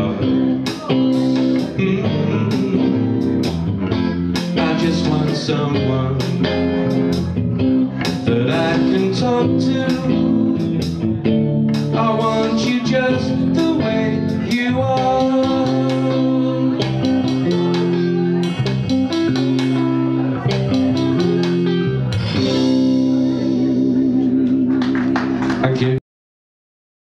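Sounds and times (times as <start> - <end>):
held bass guitar notes: 0.0 - 26.0
picked electric guitar notes: 0.0 - 26.0.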